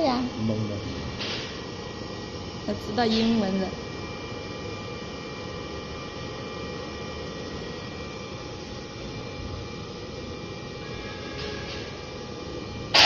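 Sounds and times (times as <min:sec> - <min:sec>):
faint whining tones: 0:00.0 - 0:13.0
machine hum and fan noise: 0:00.0 - 0:13.0.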